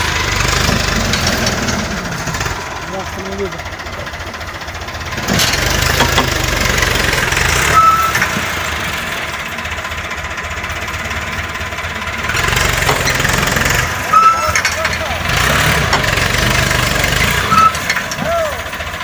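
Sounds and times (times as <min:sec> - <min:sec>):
tractor engine revving: 0:00.0 - 0:19.0.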